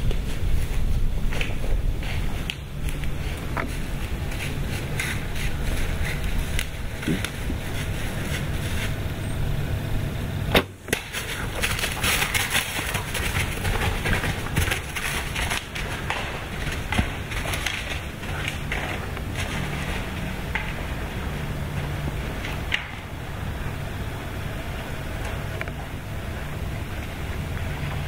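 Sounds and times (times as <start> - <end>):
rustling in dry leaves: 0.0 - 28.0.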